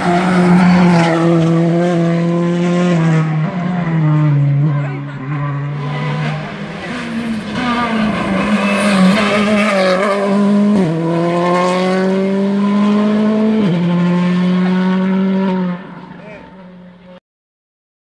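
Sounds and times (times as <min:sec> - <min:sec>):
car engine accelerating: 0:00.0 - 0:17.1.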